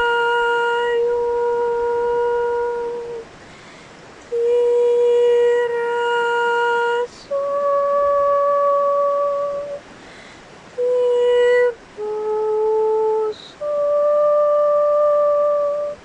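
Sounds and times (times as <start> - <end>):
long held toning notes: 0.0 - 3.3, 4.2 - 9.9, 10.8 - 16.0.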